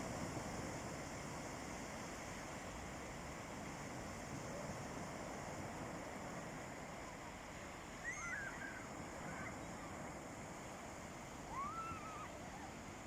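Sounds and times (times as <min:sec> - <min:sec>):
sea waves washing on beach: 0:00.0 - 0:13.0.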